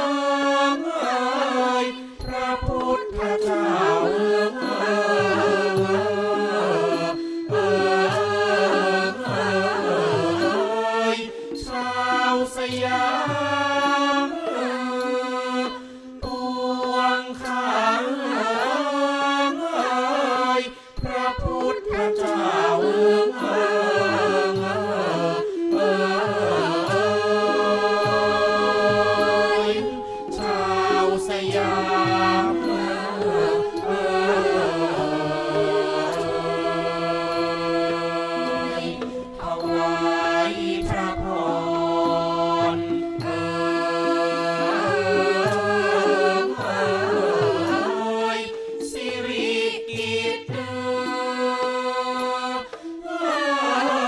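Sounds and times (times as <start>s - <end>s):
person singing melismatic vocals: 0.0s - 51.4s
instrumental ensemble: 0.0s - 54.0s.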